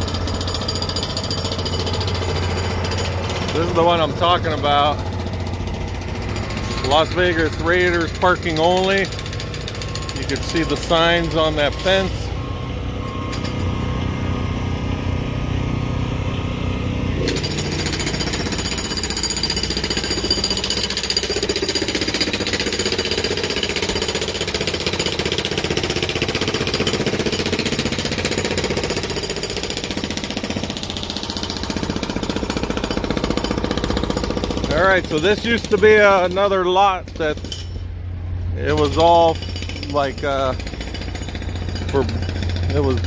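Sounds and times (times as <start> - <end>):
jackhammer hammering: 0.0 - 43.0.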